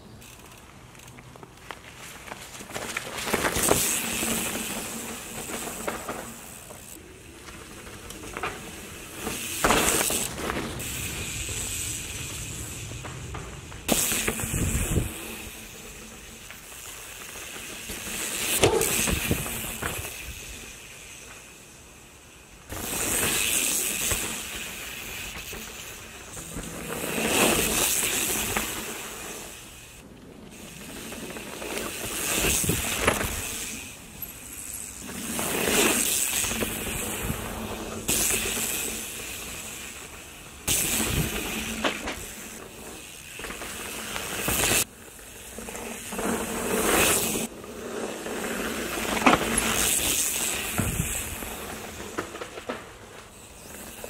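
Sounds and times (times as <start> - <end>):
bike tyres rushing over dirt: 0.0 - 54.0.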